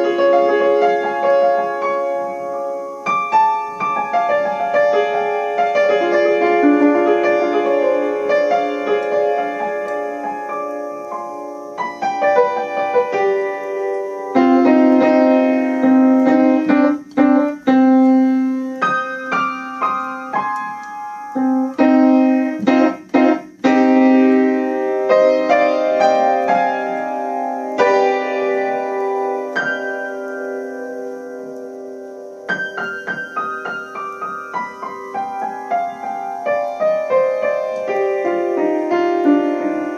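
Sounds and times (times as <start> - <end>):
slow piano music: 0.0 - 39.9.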